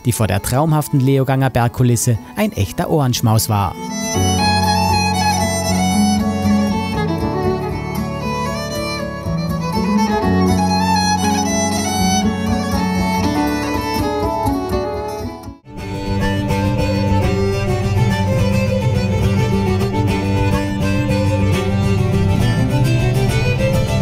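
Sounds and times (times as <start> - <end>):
accordion: 0.0 - 24.0
violin melody: 0.0 - 24.0
keyboard chords: 0.9 - 24.0
strummed guitar: 3.0 - 24.0.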